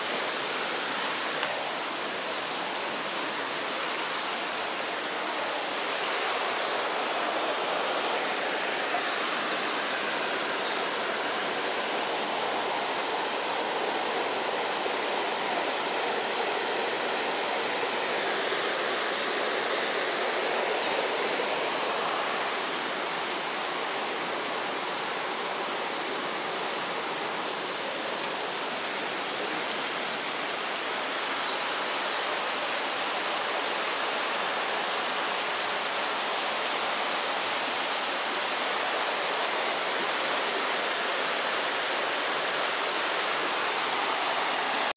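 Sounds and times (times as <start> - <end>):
river rushing over rapids: 0.0 - 44.9.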